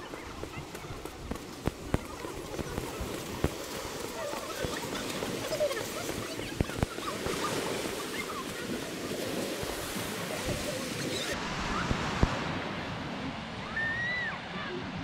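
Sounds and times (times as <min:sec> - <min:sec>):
surf washing onto beach: 0:00.0 - 0:15.0
wind on microphone: 0:00.0 - 0:15.0.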